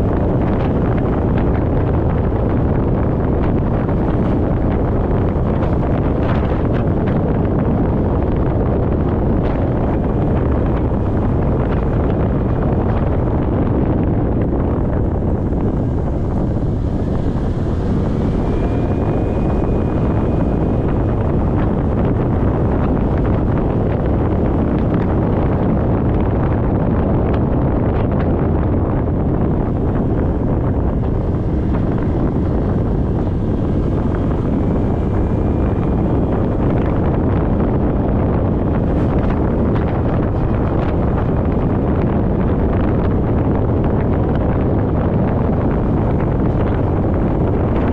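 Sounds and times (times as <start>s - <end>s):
motorcycle engine running: 0.0s - 47.9s
wind buffeting microphone: 0.0s - 47.9s.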